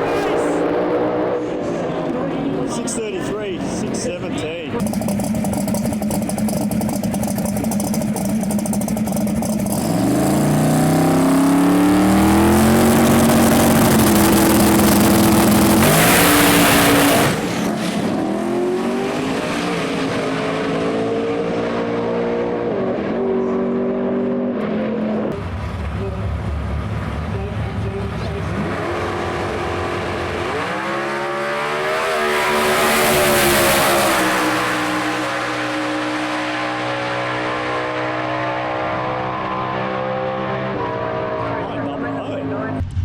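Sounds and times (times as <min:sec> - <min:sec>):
drag car engine accelerating: 0:00.0 - 0:43.0.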